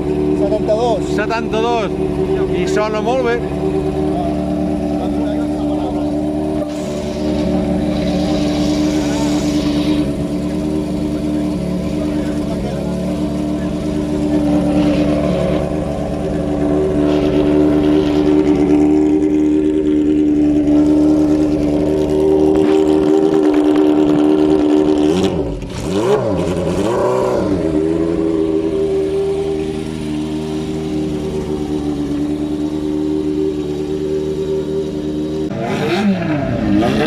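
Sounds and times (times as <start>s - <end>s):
motorcycle engine running and revving: 0.0s - 37.0s.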